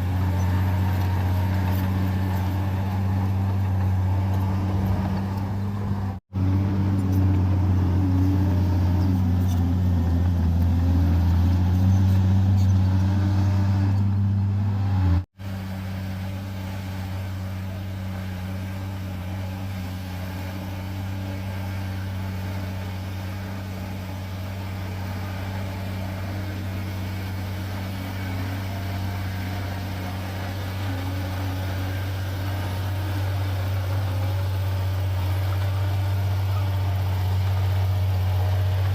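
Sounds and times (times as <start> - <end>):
diesel bulldozer engine droning: 0.0 - 38.9.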